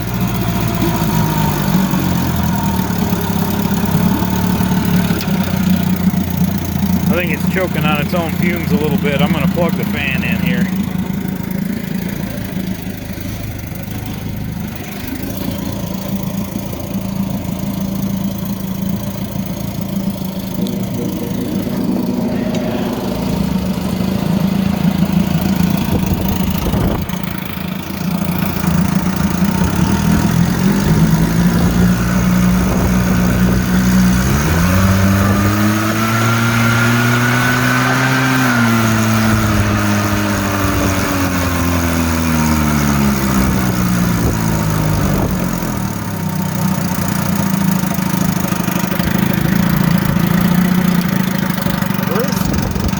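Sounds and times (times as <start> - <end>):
outboard motor running: 0.0 - 52.9.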